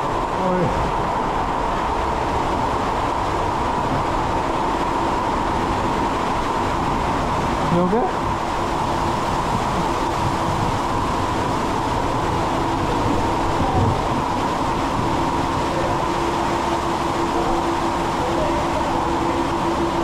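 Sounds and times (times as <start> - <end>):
constant low hum: 0.0 - 20.0
water rushing into pool: 0.0 - 20.0.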